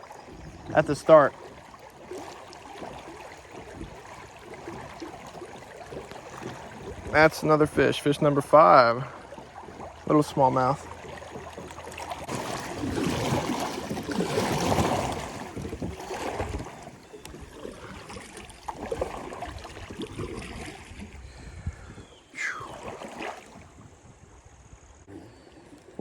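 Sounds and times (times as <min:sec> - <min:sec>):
water sloshing around kayak: 0:00.0 - 0:26.0.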